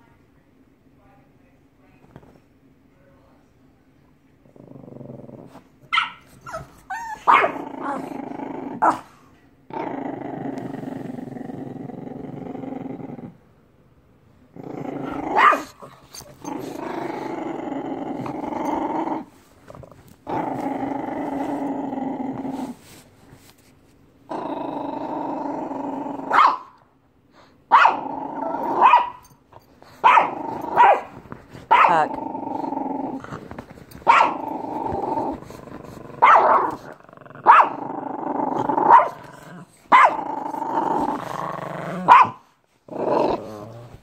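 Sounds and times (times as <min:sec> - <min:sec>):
puppy play-growling: 0:04.4 - 0:13.5, 0:14.4 - 0:26.4, 0:27.4 - 0:44.0.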